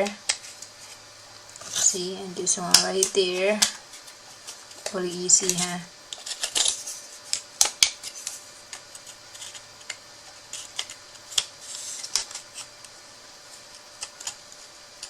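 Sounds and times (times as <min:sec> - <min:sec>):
cardboard pieces clicking: 0:00.2 - 0:00.7, 0:02.7 - 0:14.6
cardboard rustling: 0:00.3 - 0:12.8.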